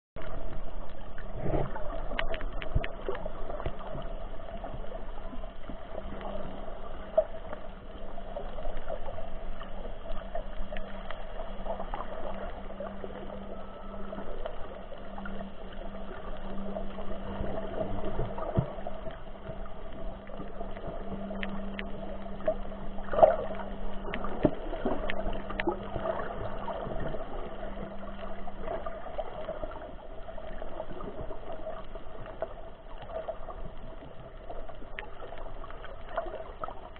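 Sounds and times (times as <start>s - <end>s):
low hum: 0.2s - 36.9s
underwater water noise: 0.2s - 36.9s.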